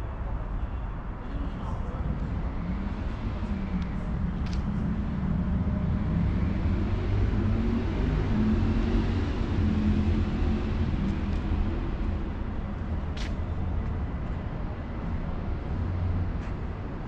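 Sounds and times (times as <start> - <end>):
engine rumbling: 1.4 - 17.0.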